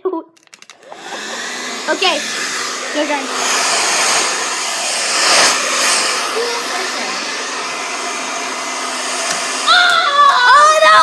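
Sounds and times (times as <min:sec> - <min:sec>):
hair dryer running: 0:00.7 - 0:11.0.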